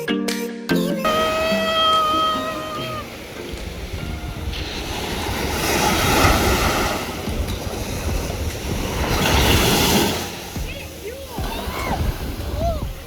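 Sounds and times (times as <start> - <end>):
waves breaking: 1.0 - 13.0
wind buffeting microphone: 1.1 - 13.0.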